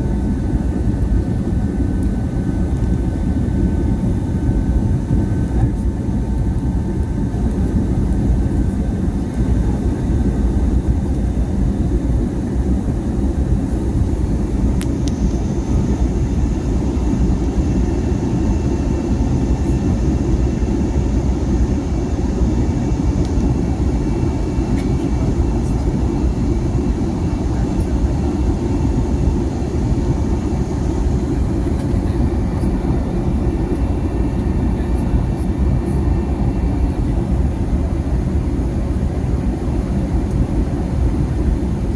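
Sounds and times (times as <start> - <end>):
jet engine cabin roar: 0.0 - 41.9.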